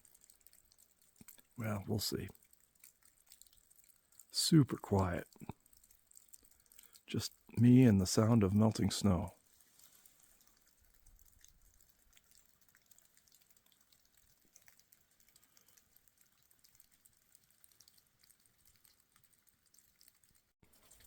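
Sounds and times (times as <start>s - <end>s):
faint drips of melting snow: 0.0s - 21.0s.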